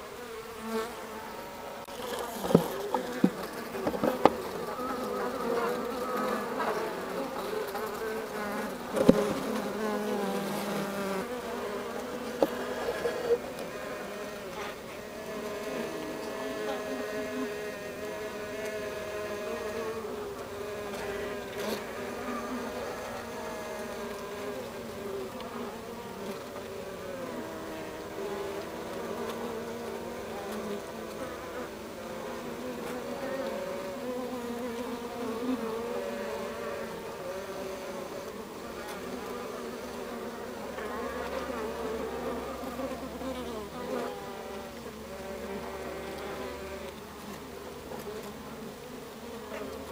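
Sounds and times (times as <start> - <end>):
bees humming in hive: 0.0 - 49.9.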